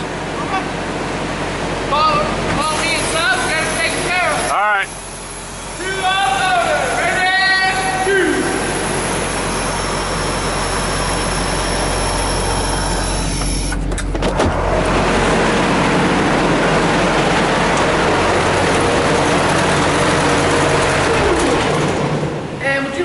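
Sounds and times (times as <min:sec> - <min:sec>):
diesel truck engine idling: 0:00.0 - 0:22.6.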